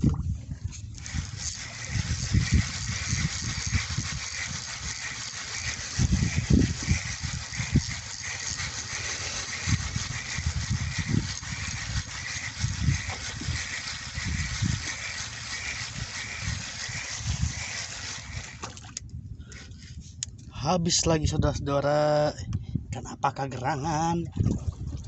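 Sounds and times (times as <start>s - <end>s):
wind buffeting microphone: 0.0s - 23.2s, 24.0s - 25.0s.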